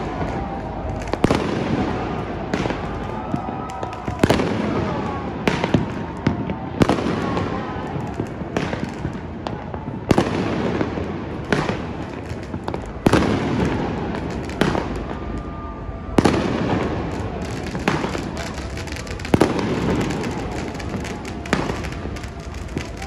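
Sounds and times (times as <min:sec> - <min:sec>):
fireworks bursting with crackling: 0:00.0 - 0:23.0.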